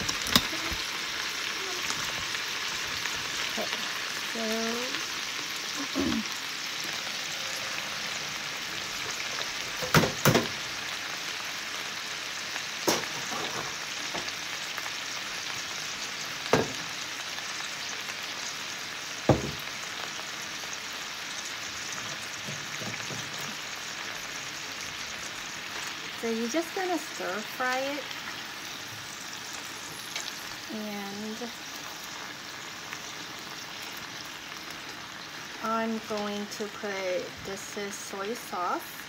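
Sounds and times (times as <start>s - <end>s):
greens sizzling in oil: 0.0s - 39.0s.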